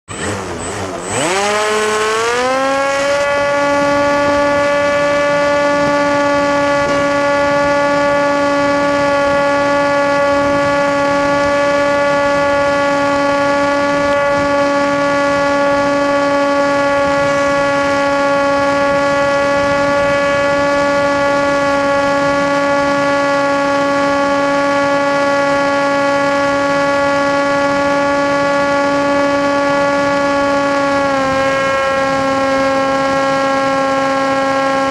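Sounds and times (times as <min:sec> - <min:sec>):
model aircraft motor whine: 0:00.1 - 0:34.9.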